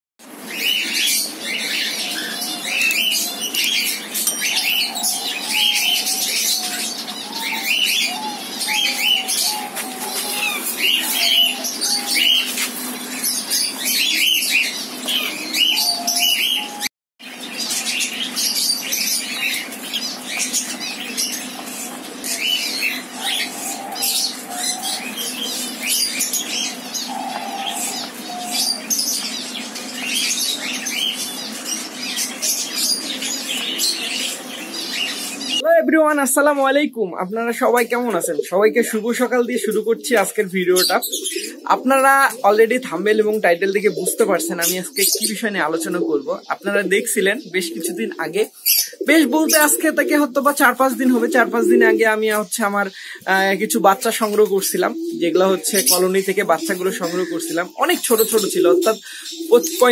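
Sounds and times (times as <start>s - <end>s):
cockatiels chirping and squawking: 0.4s - 35.6s, 39.4s - 59.9s.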